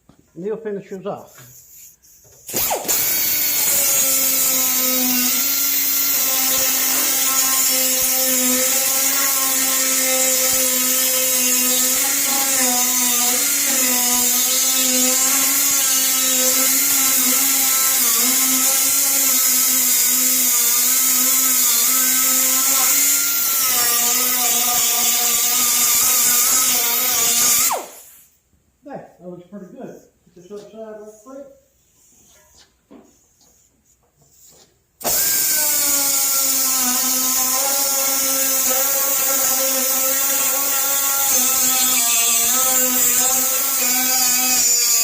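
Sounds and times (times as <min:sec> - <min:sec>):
air grinding tool whining: 0:01.3 - 0:28.4, 0:34.3 - 0:45.0.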